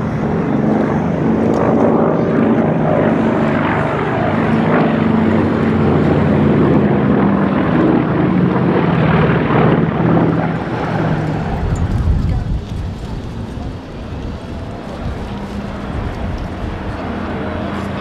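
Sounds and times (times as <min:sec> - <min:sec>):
propeller plane engines flying: 0:00.0 - 0:18.0.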